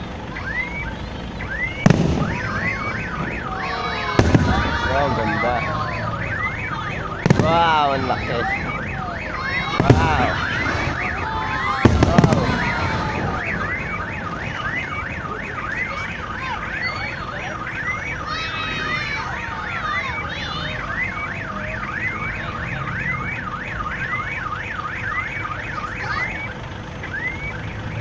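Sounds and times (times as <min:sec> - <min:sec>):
car alarm whooping: 0:00.0 - 0:28.0.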